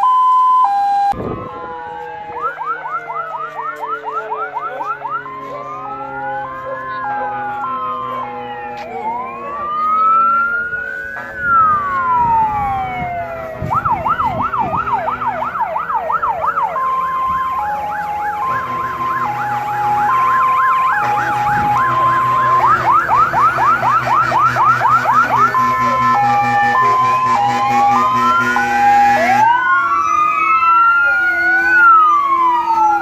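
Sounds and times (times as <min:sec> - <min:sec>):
electronic siren wailing and yelping: 0:00.0 - 0:33.0
two-tone hi-lo siren: 0:00.0 - 0:33.0.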